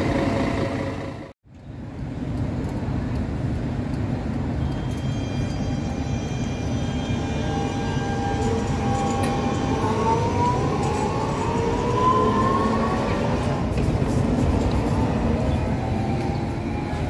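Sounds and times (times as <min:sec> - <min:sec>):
tram passing with electric whine: 0:00.0 - 0:17.0.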